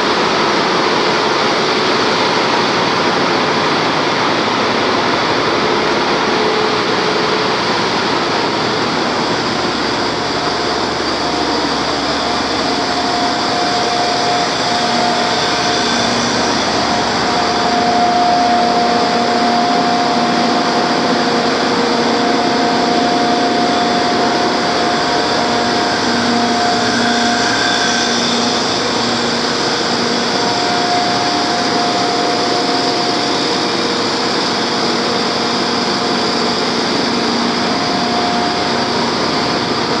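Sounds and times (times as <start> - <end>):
engine room machinery din: 0.0 - 40.0
whining tones: 4.7 - 40.0.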